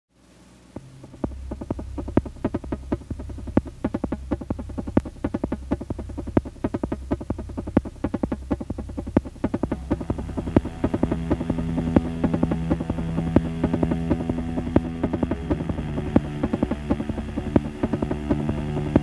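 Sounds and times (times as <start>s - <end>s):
clicking synthesizer blips: 0.8s - 19.0s
low bass drone: 0.8s - 19.0s.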